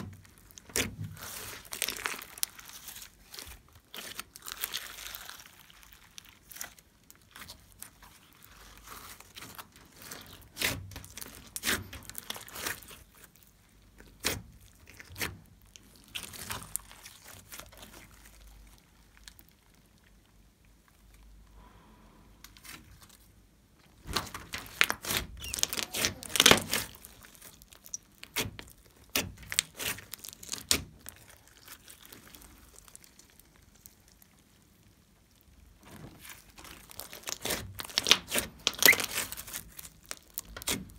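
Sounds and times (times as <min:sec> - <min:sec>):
slime crackling and popping: 0:00.0 - 0:21.3, 0:23.9 - 0:40.9.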